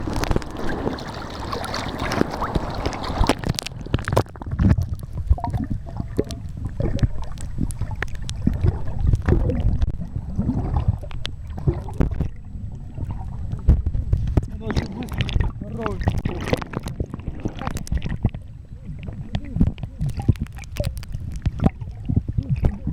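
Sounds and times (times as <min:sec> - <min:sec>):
bubbling: 0:00.0 - 0:22.9
underwater low rumble: 0:00.0 - 0:22.9
water sloshing and splashing: 0:00.0 - 0:22.9.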